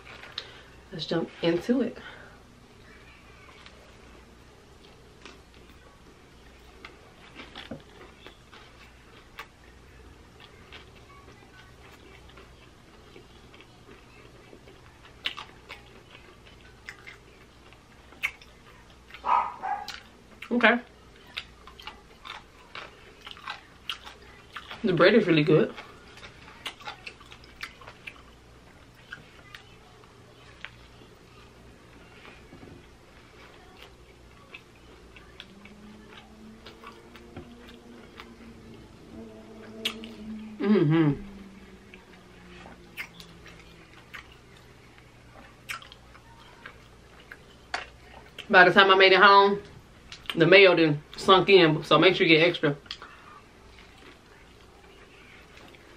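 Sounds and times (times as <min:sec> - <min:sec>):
person chewing with crunches: 0:00.0 - 0:00.7, 0:03.3 - 0:48.5, 0:52.8 - 0:55.9
low steady hum: 0:00.0 - 0:55.9.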